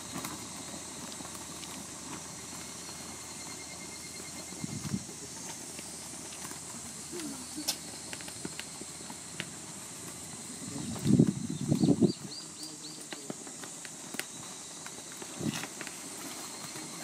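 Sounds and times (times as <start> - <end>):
outdoor hiss: 0.0 - 17.0.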